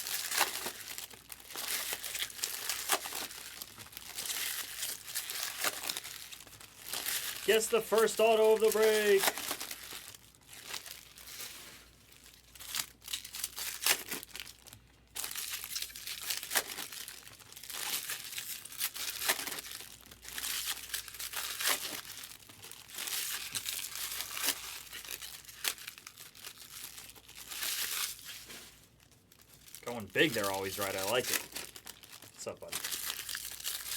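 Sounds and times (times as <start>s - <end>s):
foil wrappers tearing and crinkling: 0.0s - 33.9s.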